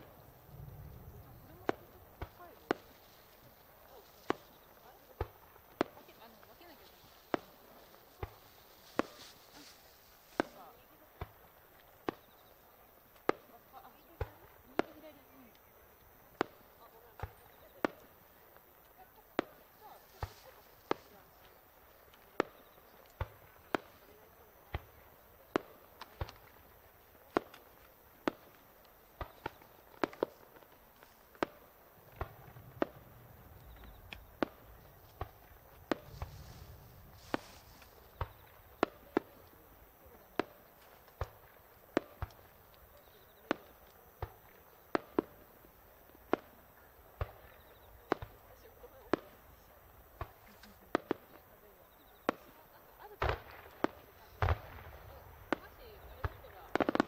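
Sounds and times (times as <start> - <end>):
fireworks bangs: 0.0 - 15.6, 16.3 - 57.0.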